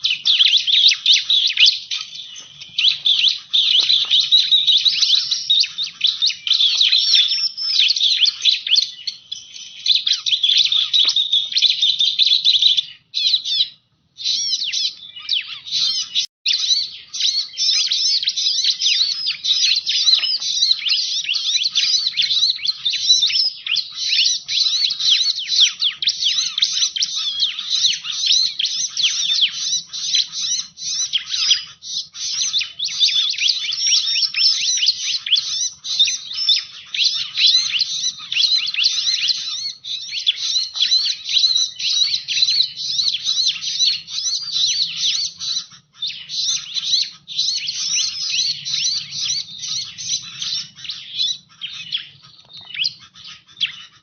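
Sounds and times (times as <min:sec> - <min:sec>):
bird chirping and twittering: 0:00.0 - 0:54.0.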